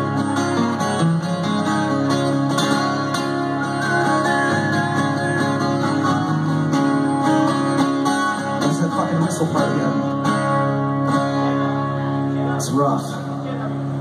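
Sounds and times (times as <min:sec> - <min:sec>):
acoustic guitars playing: 0:00.0 - 0:14.0.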